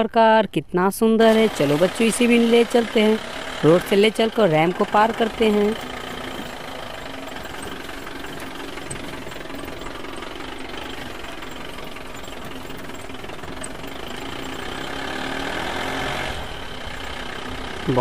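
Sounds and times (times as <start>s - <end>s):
truck engine chugging: 1.2s - 18.0s.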